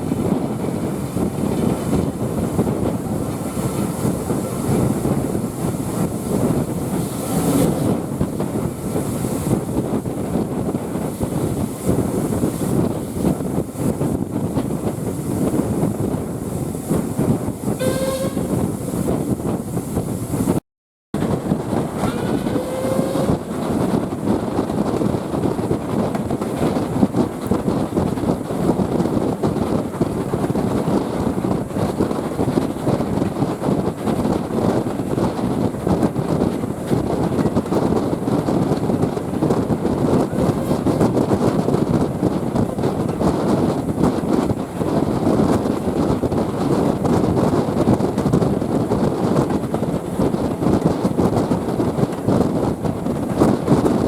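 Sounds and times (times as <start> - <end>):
train rumbling clatter: 0.0 - 20.6, 21.2 - 54.0.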